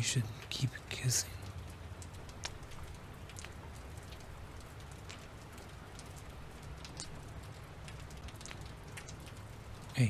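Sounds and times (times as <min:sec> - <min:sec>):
rain patter: 0:00.0 - 0:10.0.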